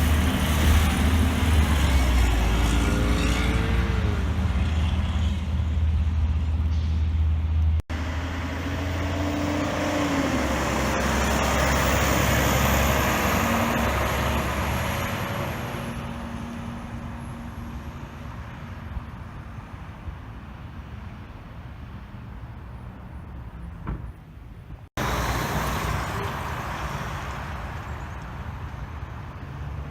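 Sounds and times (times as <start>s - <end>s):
truck passing: 0.0s - 23.9s, 24.9s - 29.9s
heavy truck engine rumbling: 0.0s - 29.9s
road noise: 0.0s - 29.9s.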